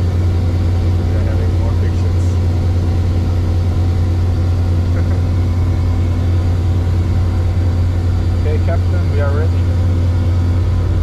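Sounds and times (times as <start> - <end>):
helicopter engine and rotors: 0.0 - 11.0.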